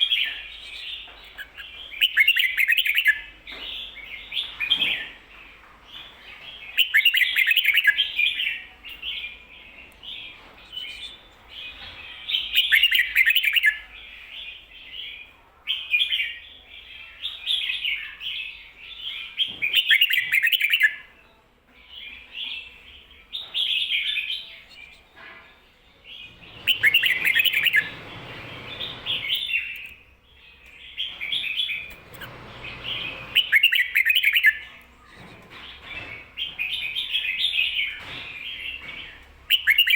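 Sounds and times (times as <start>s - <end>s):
bird singing chirpy phrases: 5.9s - 25.2s, 26.0s - 32.1s, 32.7s - 39.9s.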